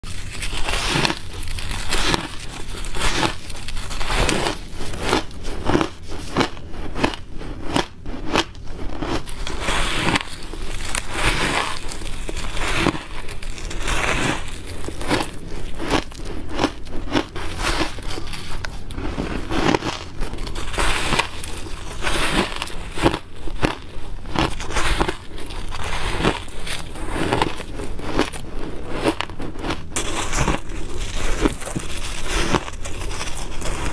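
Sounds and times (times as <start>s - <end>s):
chewing ice crunching: 0.0s - 33.9s.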